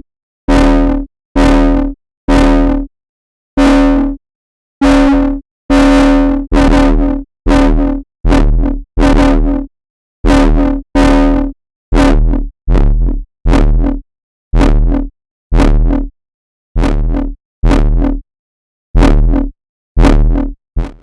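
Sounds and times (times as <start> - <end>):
synthesized bass stabs: 0.5 - 2.9, 3.6 - 4.2, 4.8 - 16.1, 16.8 - 18.2, 19.0 - 21.0.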